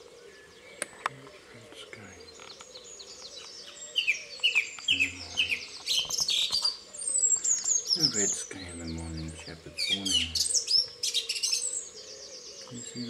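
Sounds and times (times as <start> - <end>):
bird song of falling notes: 1.9 - 13.0.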